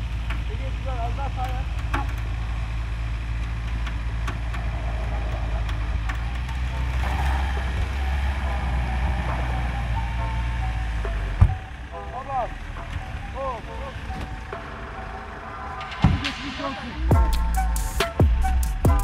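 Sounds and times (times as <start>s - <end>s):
tyres spinning on snow: 0.0s - 17.7s
car engines running hard: 0.0s - 19.0s.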